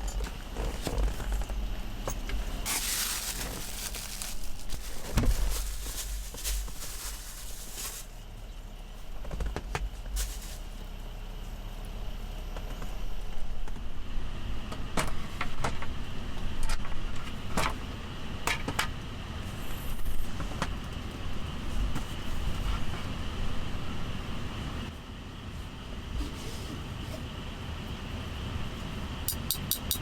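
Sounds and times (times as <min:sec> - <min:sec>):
vehicle low rumble: 0:00.0 - 0:29.3.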